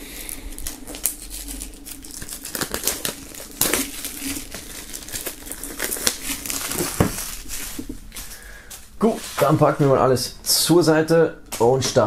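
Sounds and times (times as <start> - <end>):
plastic shrink-wrap crinkling: 0.0 - 10.0.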